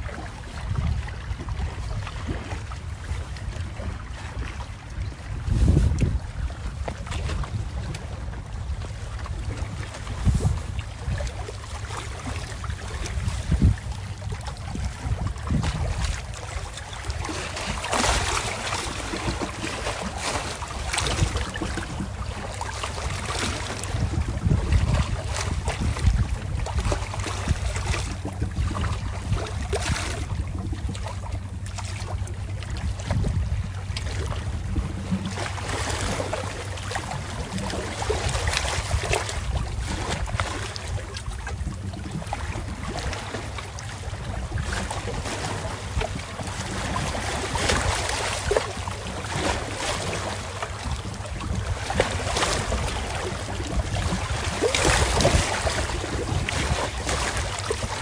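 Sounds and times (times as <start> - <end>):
low steady rumble: 0.0 - 58.0
waterside ambience: 0.0 - 58.0
wind buffeting microphone: 0.0 - 58.0.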